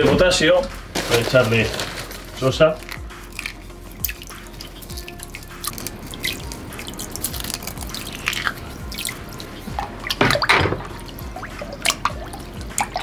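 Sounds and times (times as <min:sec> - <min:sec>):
flakes pattering into water: 0:00.0 - 0:13.0
water splashing: 0:00.0 - 0:13.0
metal utensil stirring water: 0:02.4 - 0:13.0.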